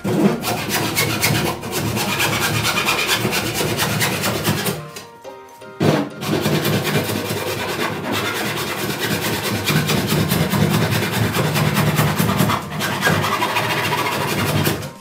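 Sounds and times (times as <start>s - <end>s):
hand saw cutting wood: 0.0s - 5.0s, 5.8s - 15.0s.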